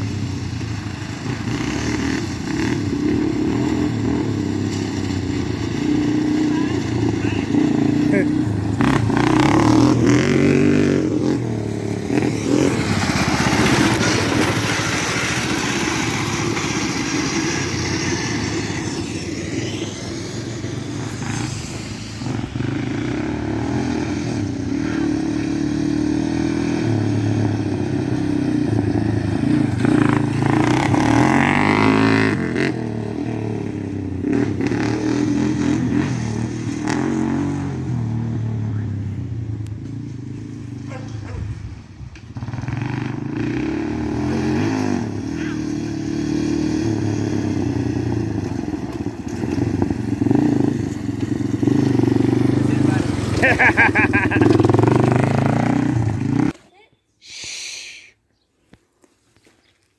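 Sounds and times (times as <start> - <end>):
small gasoline engine revving: 0.0 - 56.6.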